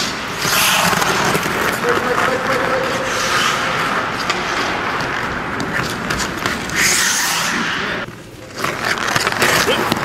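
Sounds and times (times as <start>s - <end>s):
skate blades scraping ice: 0.0s - 10.0s.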